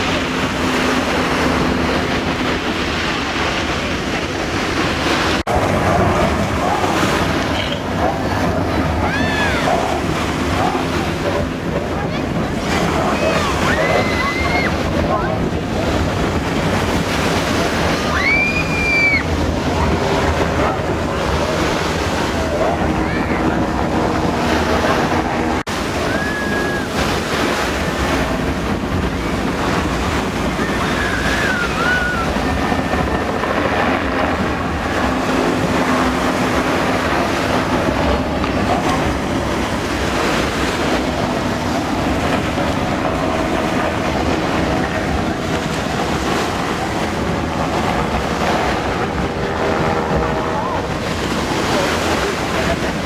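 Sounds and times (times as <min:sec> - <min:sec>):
distant powerboat engine drone: 0:00.0 - 0:53.0
helicopter: 0:00.0 - 0:53.0
wind buffeting microphone: 0:00.0 - 0:53.0.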